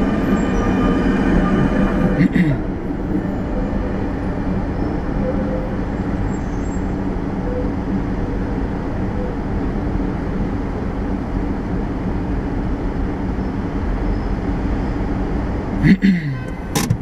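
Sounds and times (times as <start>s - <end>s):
car engines and tyres: 0.0s - 17.0s
constant low hum: 0.0s - 17.0s
electric tram passing: 0.0s - 17.0s.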